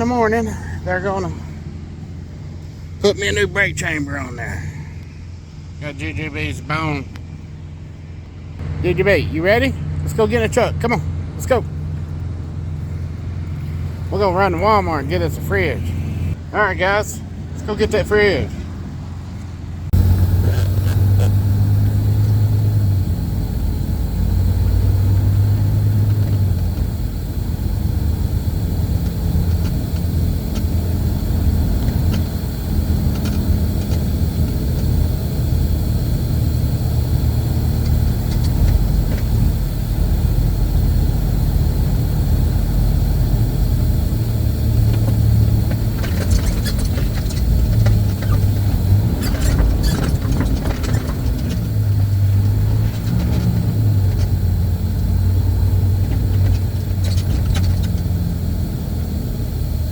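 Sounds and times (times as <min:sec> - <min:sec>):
diesel truck engine rumbling: 0:00.0 - 0:59.9.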